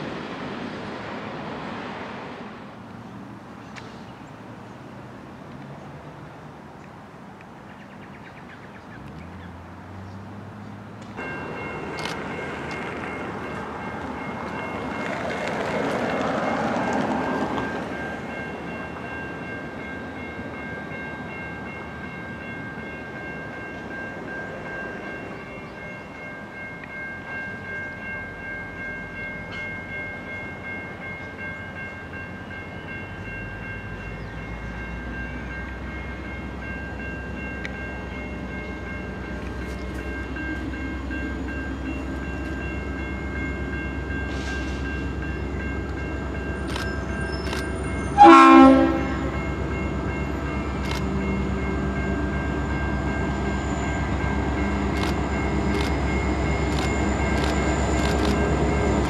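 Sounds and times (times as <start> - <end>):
freight train rushing: 0.0 - 59.0.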